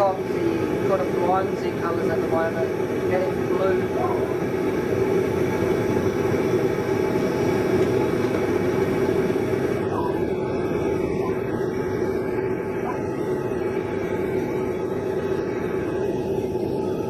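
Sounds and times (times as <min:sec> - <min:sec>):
forge rushing with low hum: 0:00.0 - 0:17.0.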